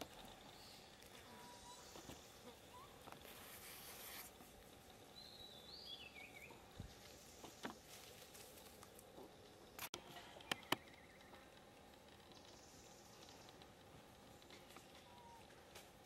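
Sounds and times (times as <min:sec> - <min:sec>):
soft hiss: 0:00.0 - 0:16.0.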